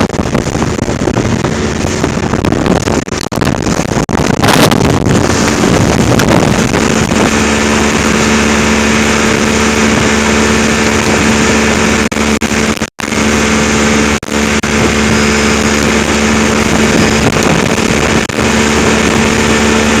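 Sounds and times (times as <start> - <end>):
engine droning steadily: 0.0 - 20.0
rushing water: 0.0 - 20.0
rushing wind: 0.0 - 20.0.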